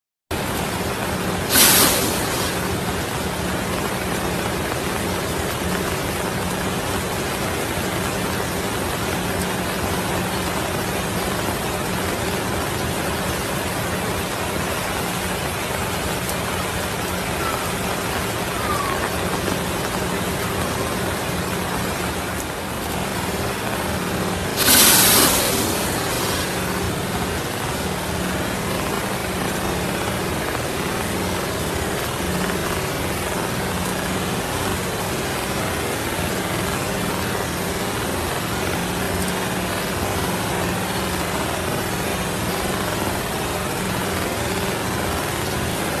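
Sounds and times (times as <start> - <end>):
loud rush of noise: 0.3 - 46.0
rain and flowing floodwater: 0.3 - 46.0.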